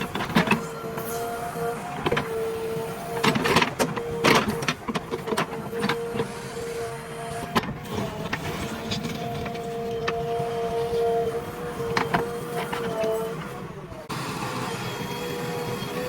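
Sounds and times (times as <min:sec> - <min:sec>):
backhoe loader whine: 0:00.0 - 0:16.0.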